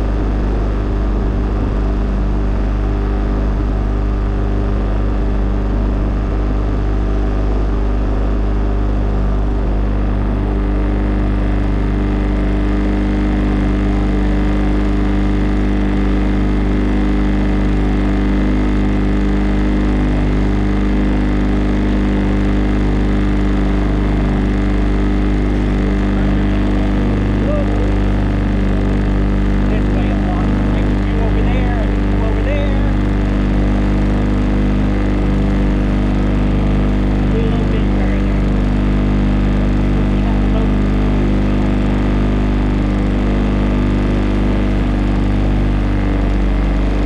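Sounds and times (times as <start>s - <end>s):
motorboat engine running: 0.0s - 47.0s.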